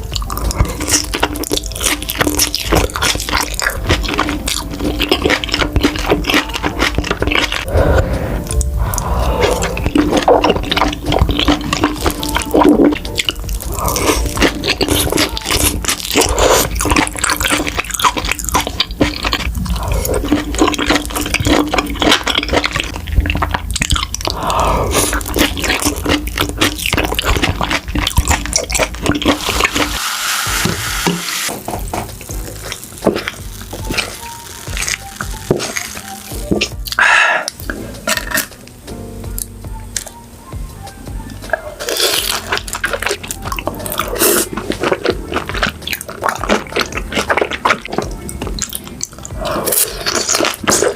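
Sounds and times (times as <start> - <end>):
wet sticky chewing: 0.0 - 31.2, 32.1 - 38.5, 41.5 - 50.9.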